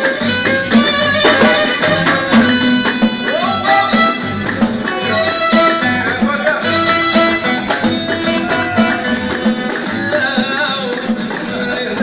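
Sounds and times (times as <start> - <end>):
drum kit: 0.0 - 12.0
hand frame drums: 0.0 - 12.0.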